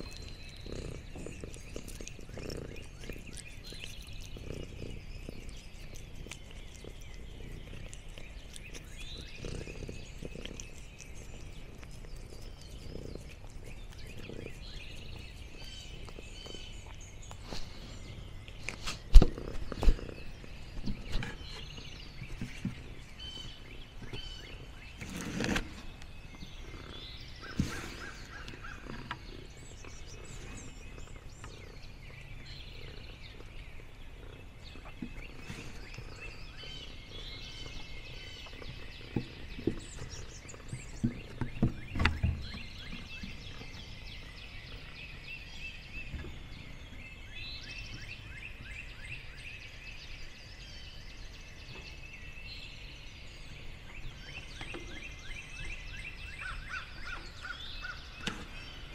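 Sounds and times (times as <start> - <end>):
birds chirping: 0.0 - 58.9.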